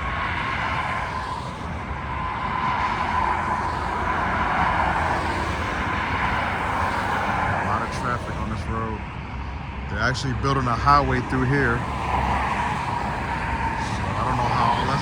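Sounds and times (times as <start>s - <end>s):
car tyre and engine road noise: 0.0s - 15.0s
faint whine: 0.0s - 15.0s.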